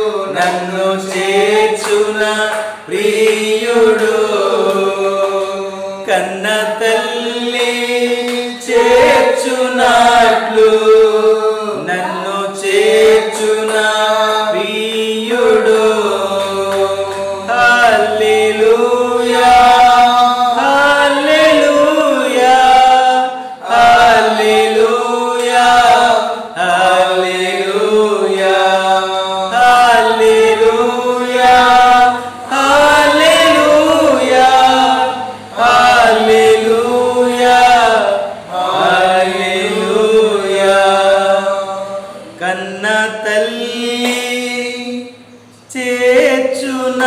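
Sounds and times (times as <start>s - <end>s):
man singing worship song: 0.0s - 47.0s.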